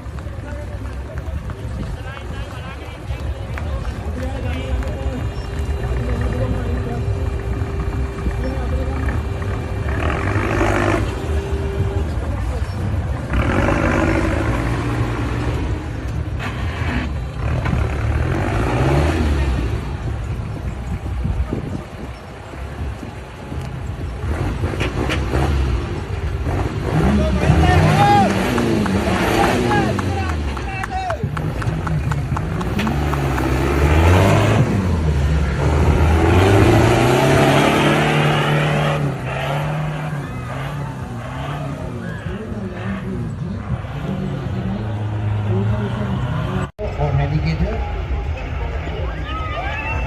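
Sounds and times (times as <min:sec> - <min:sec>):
off-road vehicle engine revving: 0:00.0 - 0:48.6.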